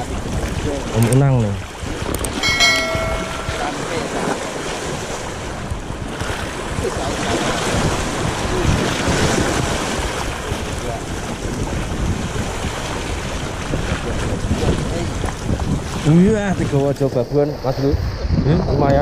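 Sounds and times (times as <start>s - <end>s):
sea waves splashing: 0.0s - 17.6s
wind on microphone: 0.0s - 19.0s.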